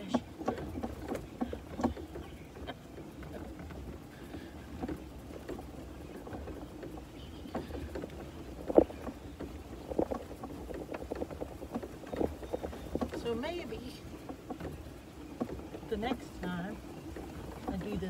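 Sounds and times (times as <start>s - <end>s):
cart rattles and knocks: 0.0s - 18.0s
golf cart low rumble: 0.0s - 18.0s.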